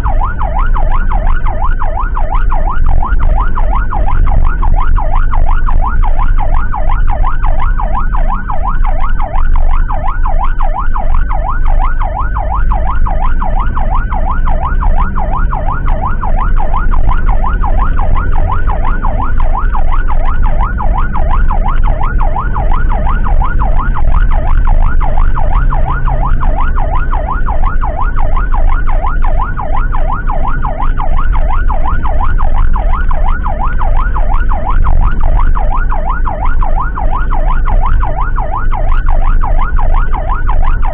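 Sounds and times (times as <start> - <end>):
emergency siren yelping: 0.0 - 40.9
vehicle rumble on road: 0.0 - 40.9.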